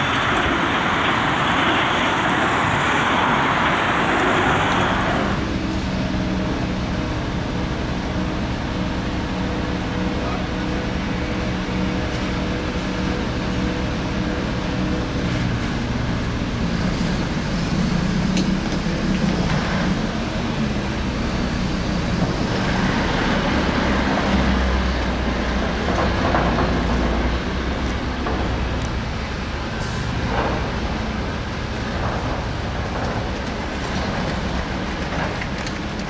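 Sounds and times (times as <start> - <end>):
truck tyres on loose gravel: 0.0 - 10.2, 11.0 - 36.0
heavy diesel engine running: 0.0 - 36.0.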